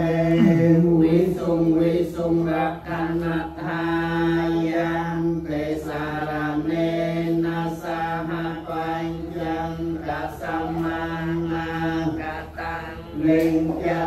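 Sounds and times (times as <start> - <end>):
monks chanting together: 0.0 - 14.0.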